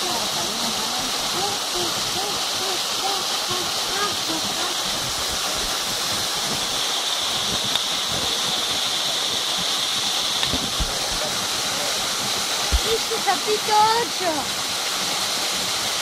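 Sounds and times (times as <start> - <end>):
waterfall rushing into pool: 0.0 - 16.0.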